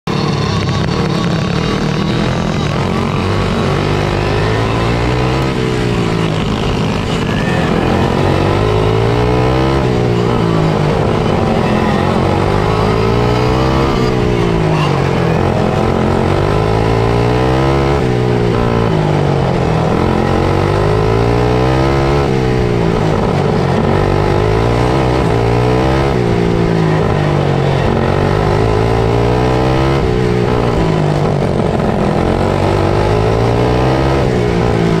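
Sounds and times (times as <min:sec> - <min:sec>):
kart engine revving: 0:00.1 - 0:35.0.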